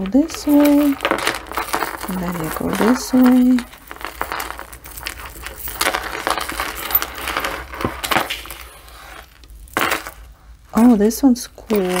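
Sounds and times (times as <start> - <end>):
jewelry chains and beads clinking: 0.0 - 12.0
plastic bag crinkling: 0.0 - 12.0.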